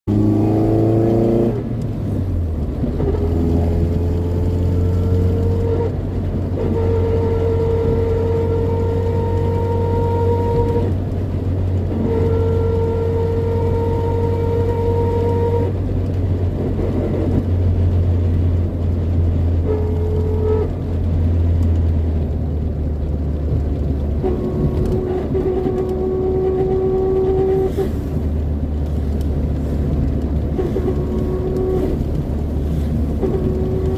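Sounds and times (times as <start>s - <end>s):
car engine humming: 0.0s - 33.9s
engine whine: 0.0s - 33.9s.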